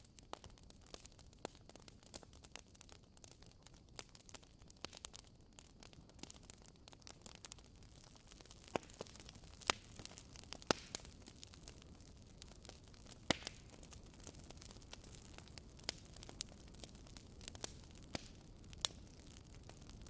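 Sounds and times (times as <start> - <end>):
wood fire crackling: 0.0 - 20.0
sharp pops of fire: 0.1 - 20.0.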